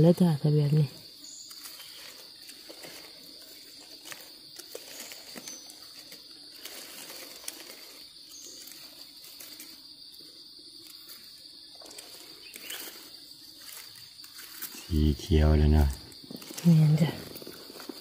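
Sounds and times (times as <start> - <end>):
high-pitched insect drone: 0.0 - 18.0
faint clicks and rustles: 1.4 - 9.8, 10.8 - 14.9, 15.8 - 18.0.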